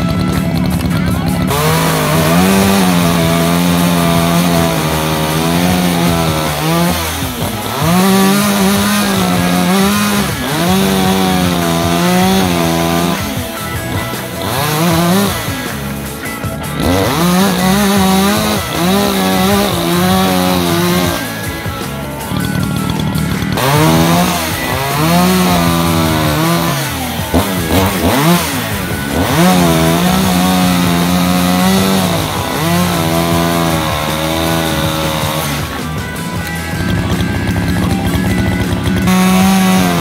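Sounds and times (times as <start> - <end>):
chainsaw cutting firewood: 0.0 - 40.0.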